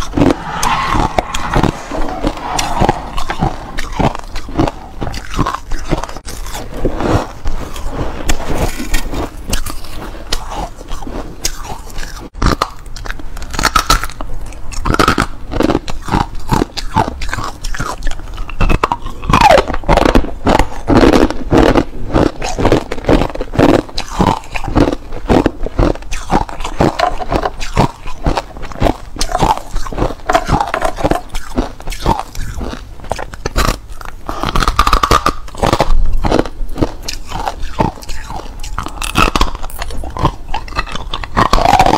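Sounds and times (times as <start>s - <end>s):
ice being chewed crunching: 4.0s - 41.9s.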